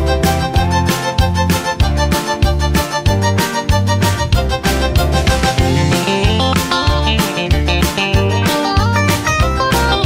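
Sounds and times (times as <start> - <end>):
pop band music with steady beat: 0.0 - 10.0.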